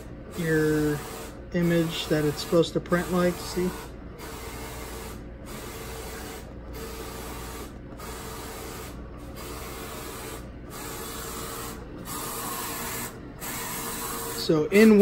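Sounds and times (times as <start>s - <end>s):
inkjet printer carriage whirring: 0.0s - 15.0s.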